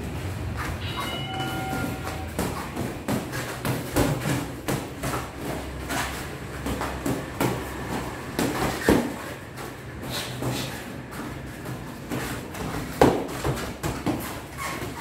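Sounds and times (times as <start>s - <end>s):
boxing gloves smacking mitts: 1.8s - 15.0s.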